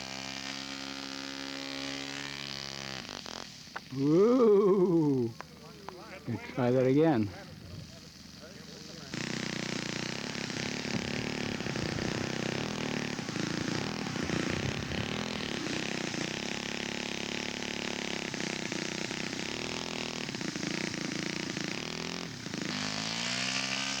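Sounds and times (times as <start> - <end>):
model aeroplane engine running: 0.0 - 24.0.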